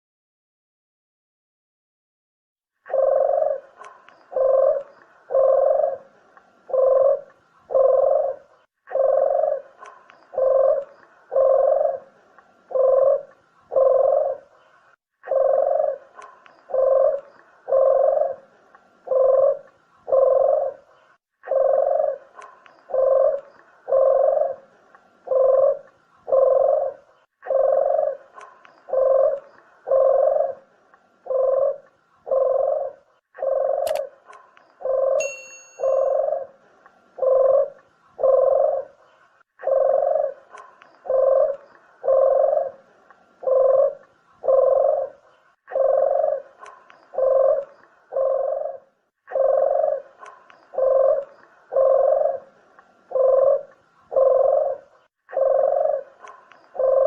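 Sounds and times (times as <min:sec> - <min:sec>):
dove cooing: 0:02.9 - 0:36.6, 0:37.2 - 0:57.0.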